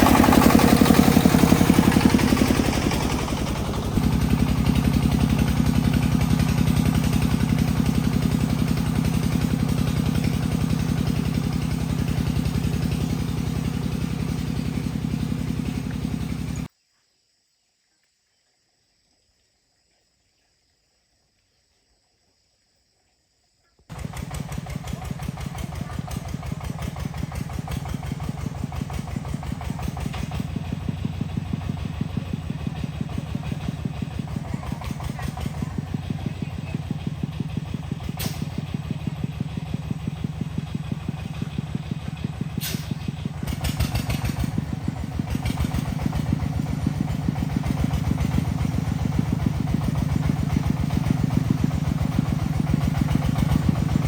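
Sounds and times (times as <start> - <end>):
vehicle engine running: 0.0 - 16.7, 23.9 - 54.0.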